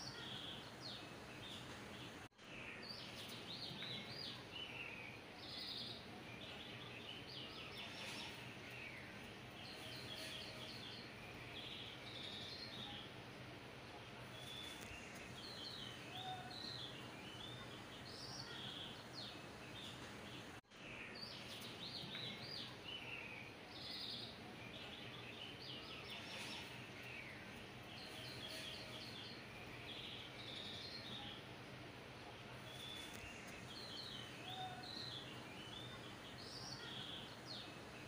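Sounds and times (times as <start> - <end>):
small birds chirping: 0.0 - 38.0
steady background hiss: 0.0 - 38.0.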